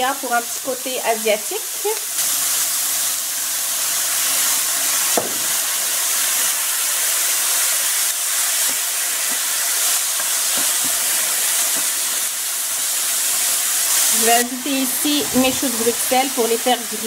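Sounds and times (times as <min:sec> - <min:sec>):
meat and onion sizzling in a pan: 0:00.0 - 0:17.0.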